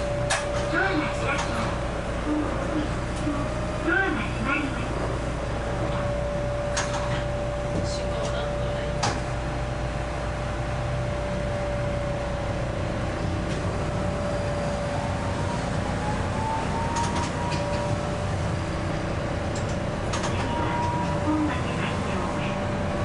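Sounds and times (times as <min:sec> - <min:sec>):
streetcar rumbling on track: 0:00.0 - 0:23.0.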